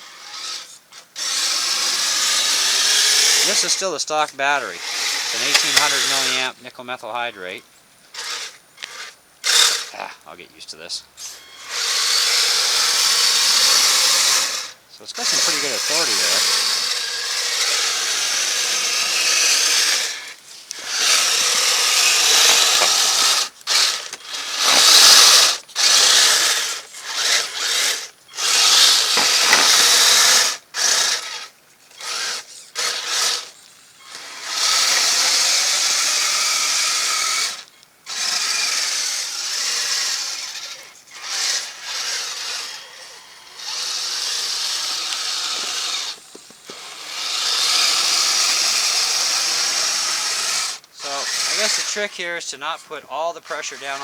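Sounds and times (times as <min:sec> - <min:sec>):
electric motors whirring: 0:00.0 - 0:54.0.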